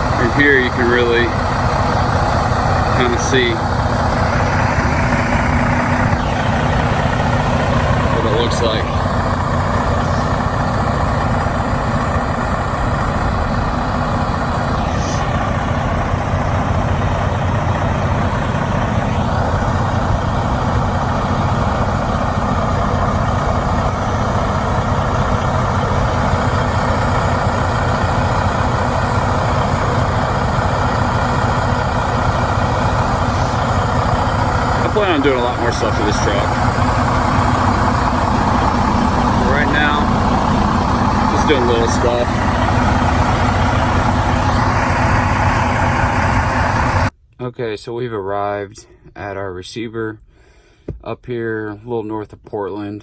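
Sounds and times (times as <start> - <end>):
diesel truck engine running: 0.0 - 47.1.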